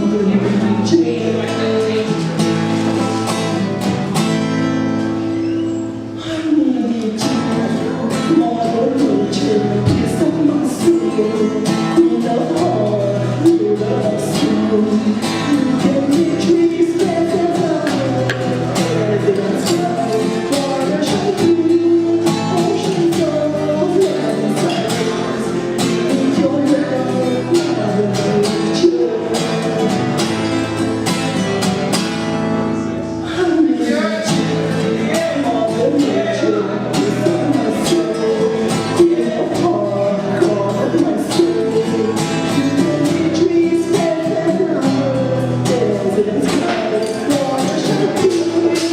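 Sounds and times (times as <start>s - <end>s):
person singing: 0.0s - 3.8s, 5.9s - 31.2s, 33.0s - 48.9s
acoustic guitar: 0.0s - 48.9s.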